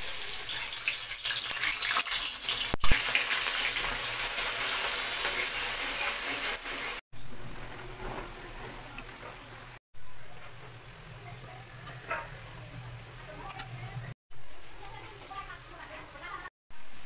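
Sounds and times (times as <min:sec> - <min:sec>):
potatoes deep-frying in oil: 0:00.0 - 0:17.0.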